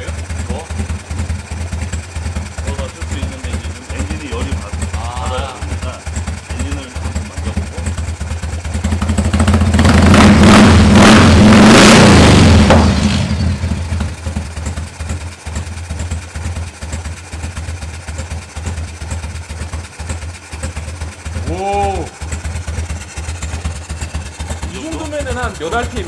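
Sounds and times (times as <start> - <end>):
motorcycle engine idling: 0.0 - 26.0
motorcycle engine revving: 0.0 - 26.0.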